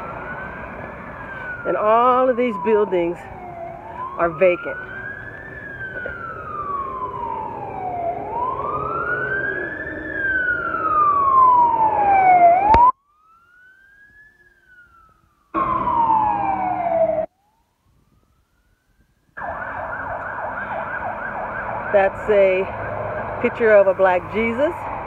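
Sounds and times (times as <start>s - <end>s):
emergency siren wailing: 0.0s - 25.0s.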